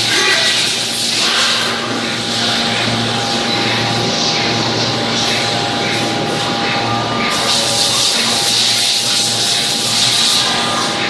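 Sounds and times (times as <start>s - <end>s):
machining centres running: 0.0s - 11.0s.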